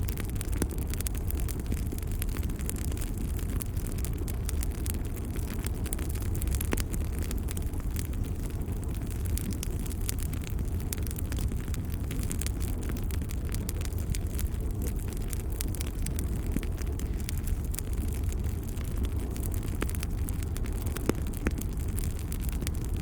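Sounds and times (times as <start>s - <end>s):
fire crackling and popping: 0.0s - 23.0s
low steady rumble: 0.0s - 23.0s.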